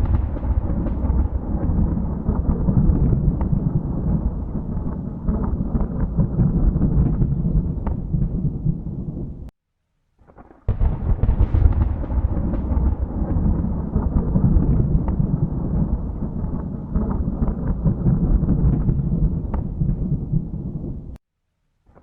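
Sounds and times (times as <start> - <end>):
sharp thunder crack: 0.0 - 9.5, 10.4 - 21.2
thunder rumbling with crackles: 0.0 - 9.5, 10.4 - 21.2.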